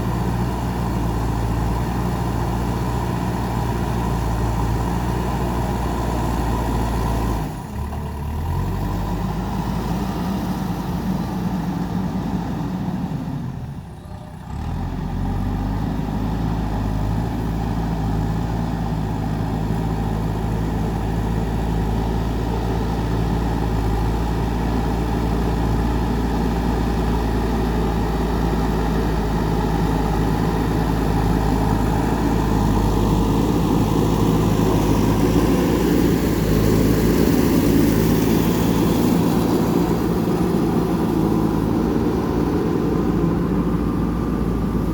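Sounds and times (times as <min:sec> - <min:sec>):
backhoe diesel engine running: 0:00.0 - 0:44.9.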